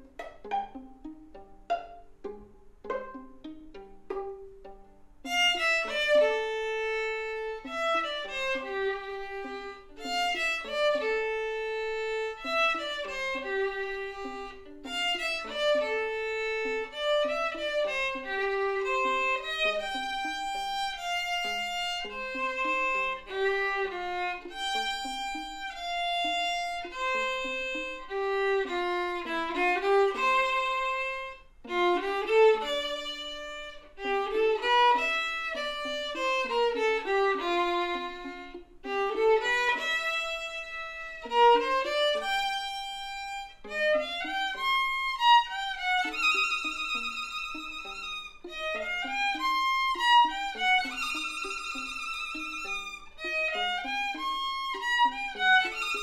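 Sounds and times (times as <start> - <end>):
violin duet: 0.0 - 56.0.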